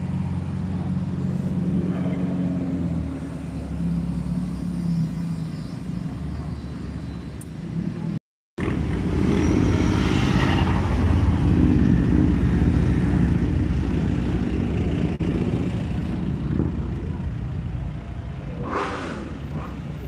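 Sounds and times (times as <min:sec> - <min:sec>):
car engine and exhaust rumble: 0:00.0 - 0:20.0.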